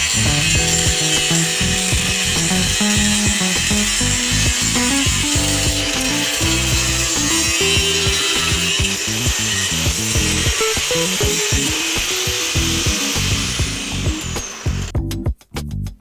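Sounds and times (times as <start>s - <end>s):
angle grinder cutting plastic: 0.0s - 15.0s.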